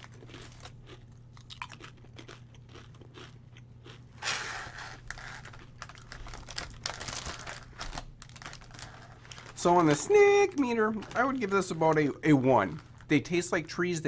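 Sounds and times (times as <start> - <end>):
chewing crunchy chips: 0.0 - 13.4
chip bag rustling: 0.0 - 14.0.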